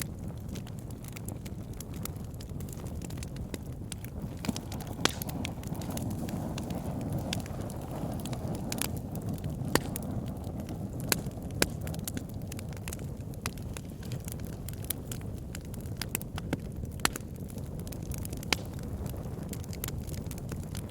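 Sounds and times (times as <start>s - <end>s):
burning wood crackling and popping: 0.0s - 20.9s
low rumble of flames: 0.0s - 20.9s.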